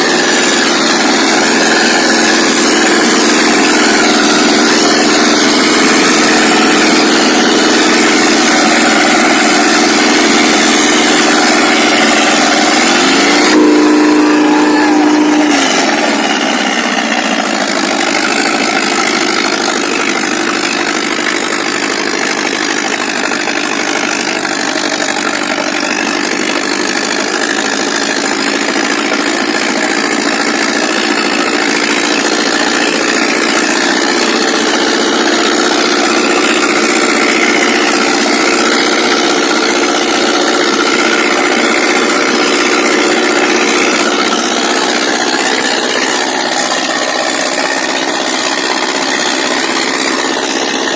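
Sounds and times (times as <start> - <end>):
tractor diesel engine running hard: 0.0 - 50.9.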